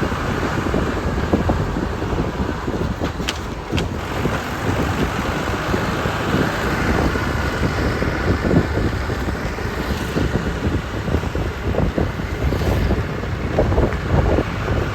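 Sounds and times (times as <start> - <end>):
tractor engine running: 0.0 - 14.9
wind on microphone: 0.0 - 14.9.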